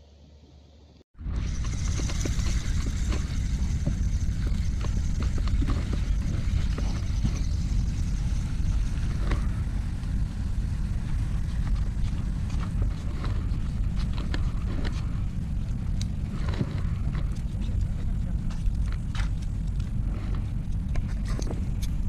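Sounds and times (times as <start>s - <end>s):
wind buffeting microphone: 1.2s - 22.0s.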